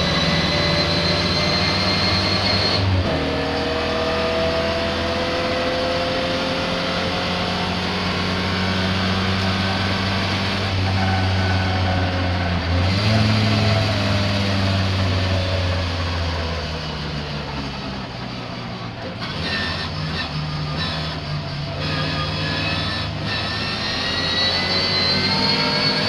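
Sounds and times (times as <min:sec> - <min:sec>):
misfiring racing car engine: 0:00.0 - 0:26.0.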